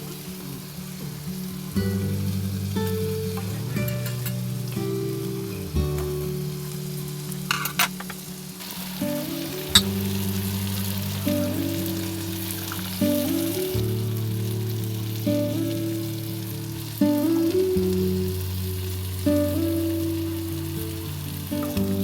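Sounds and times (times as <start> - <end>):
food sizzling in a pan: 0.0 - 22.0
soft background music: 0.0 - 22.0.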